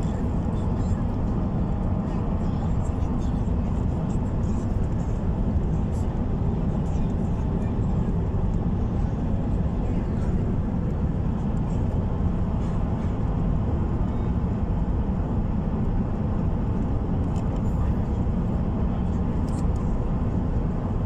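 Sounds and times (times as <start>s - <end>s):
moving vehicle rumble: 0.0s - 21.0s.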